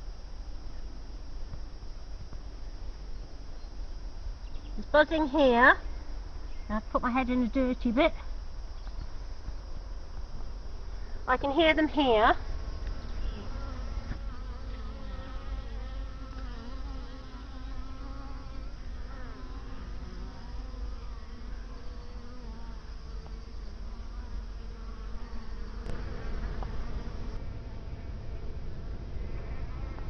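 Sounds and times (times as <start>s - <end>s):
bees buzzing: 2.4s - 28.5s.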